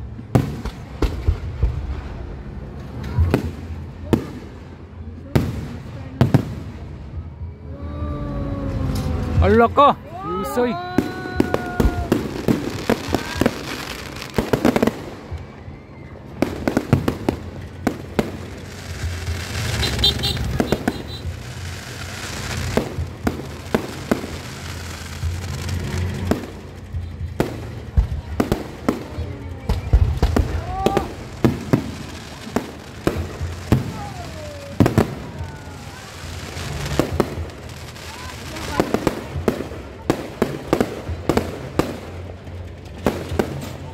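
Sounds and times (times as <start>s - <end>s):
fireworks bursting in sharp bangs: 0.1s - 7.4s, 10.3s - 43.9s.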